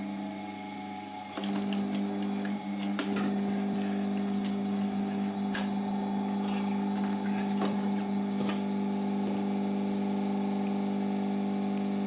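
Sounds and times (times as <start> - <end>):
sewing machine humming: 0.0 - 12.0.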